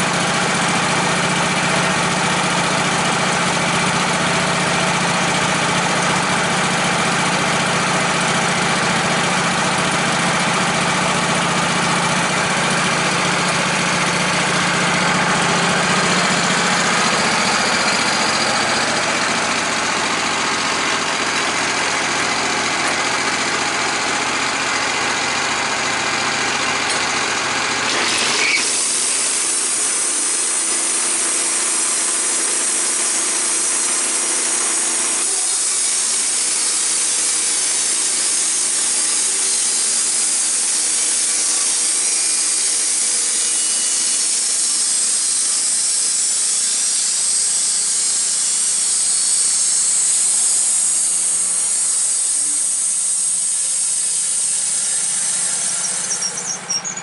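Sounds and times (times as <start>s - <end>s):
engine running steadily: 0.0s - 57.0s
saw cutting wood: 0.0s - 57.0s.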